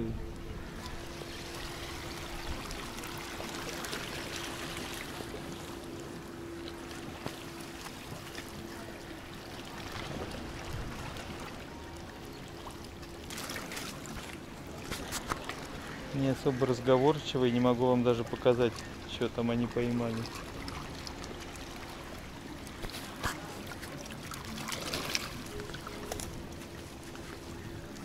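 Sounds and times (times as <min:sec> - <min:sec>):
faint steady hum: 0:00.0 - 0:28.0
waves lapping on rocky shore: 0:00.6 - 0:28.0.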